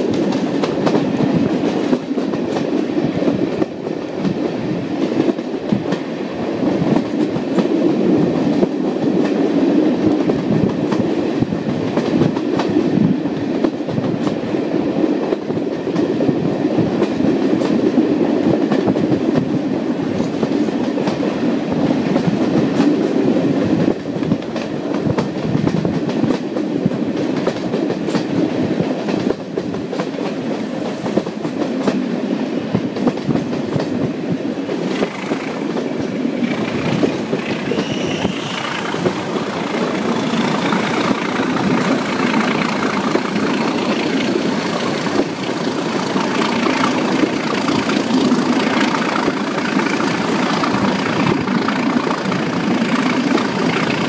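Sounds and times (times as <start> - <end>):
wheels clicking over rail joints: 0.0 - 16.2, 22.0 - 54.0
diesel locomotive working hard: 0.0 - 54.0
train rushing rumble: 0.0 - 54.0.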